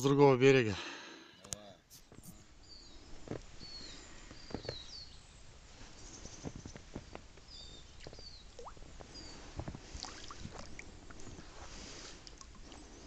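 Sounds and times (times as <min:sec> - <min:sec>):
small birds chirping: 0:01.7 - 0:13.0.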